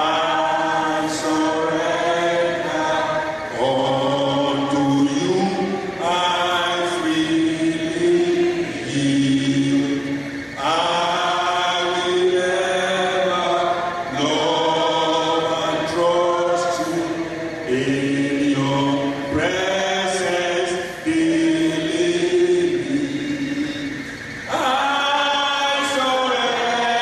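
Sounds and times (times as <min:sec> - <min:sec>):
man singing worship song: 0:00.0 - 0:27.0.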